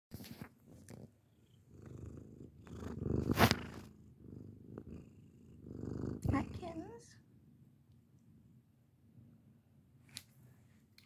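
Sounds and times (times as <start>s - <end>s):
cat purring: 0.6s - 9.5s.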